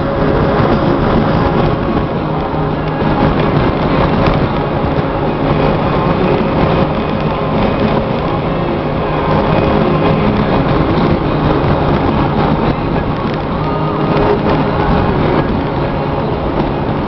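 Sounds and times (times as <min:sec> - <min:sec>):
road and wind noise in vehicle: 0:00.0 - 0:17.0.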